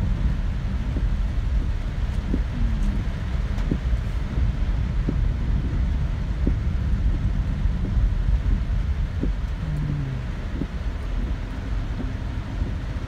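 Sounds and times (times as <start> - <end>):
car interior rumble: 0.0 - 13.0
rain on windscreen: 0.0 - 13.0.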